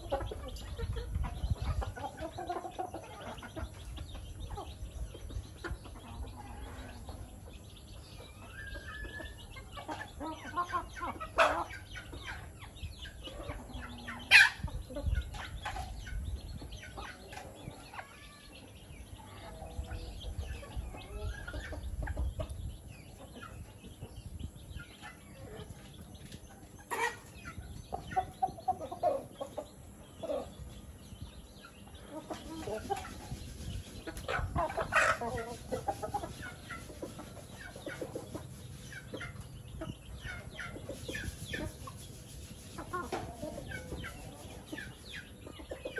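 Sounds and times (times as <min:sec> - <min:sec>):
chicks clucking and peeping: 0:00.0 - 0:45.9.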